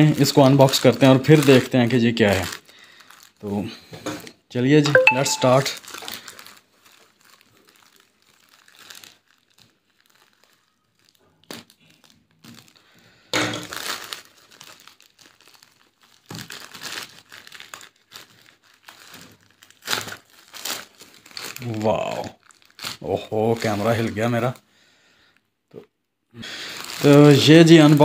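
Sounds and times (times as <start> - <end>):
plastic bag crinkling and tearing: 0.0 - 3.6, 5.6 - 24.6, 26.5 - 28.0.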